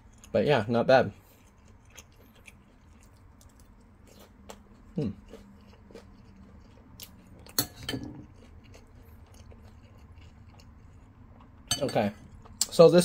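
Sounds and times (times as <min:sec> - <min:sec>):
person chewing food: 0:00.0 - 0:00.4, 0:01.1 - 0:12.7.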